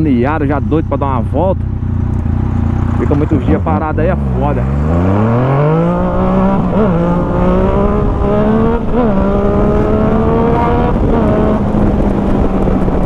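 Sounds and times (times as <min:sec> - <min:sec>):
loud motorcycle engine: 0:00.0 - 0:13.0.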